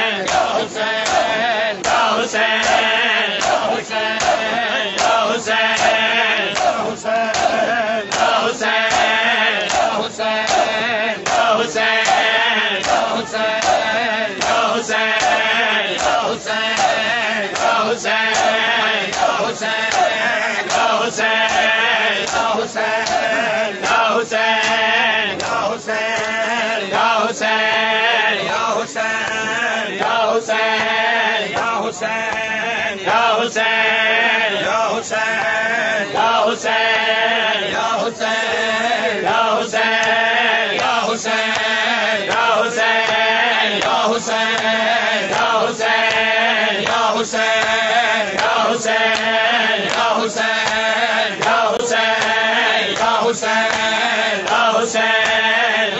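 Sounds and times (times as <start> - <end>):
men chanting: 0.0 - 55.9
rhythmic chest-beating: 0.0 - 55.9.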